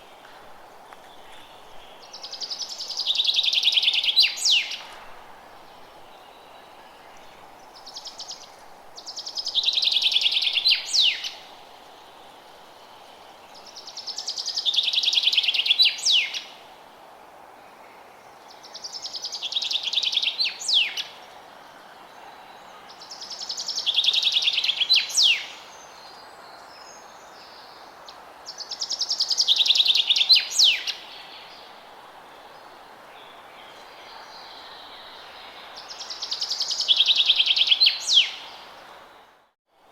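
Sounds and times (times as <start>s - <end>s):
faint background noise: 0.0s - 39.9s.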